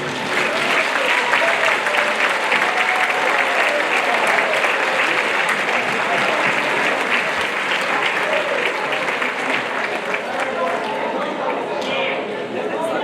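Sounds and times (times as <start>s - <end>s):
audience applauding: 0.0s - 11.3s
faint voices and cheers: 0.0s - 13.0s.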